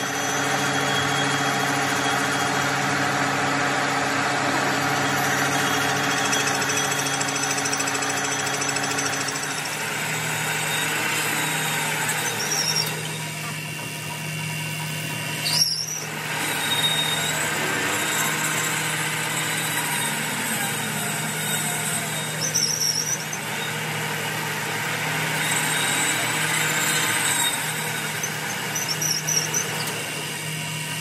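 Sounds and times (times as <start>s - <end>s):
cutting tool squealing on steel: 0.0s - 3.1s, 4.7s - 31.0s
metal lathe cutting steel: 0.0s - 31.0s.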